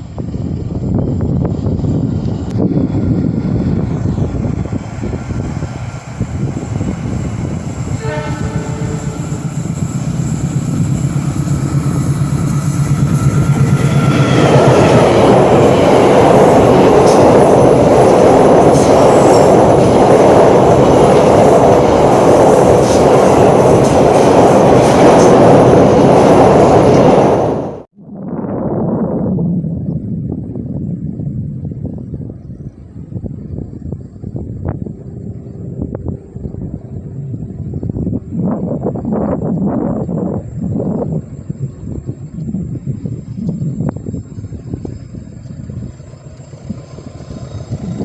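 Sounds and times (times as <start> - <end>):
locomotive hum: 0.0 - 27.9, 29.5 - 48.0
train rumbling past: 0.0 - 27.9, 28.8 - 48.0.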